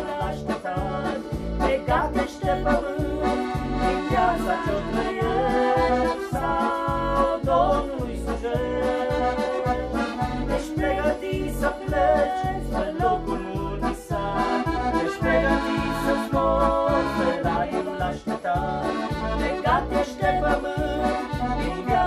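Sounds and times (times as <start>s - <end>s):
electronic keyboard with bass beat: 0.0s - 22.0s
piano accordion melody: 0.0s - 22.0s
woman and man singing: 0.0s - 22.0s.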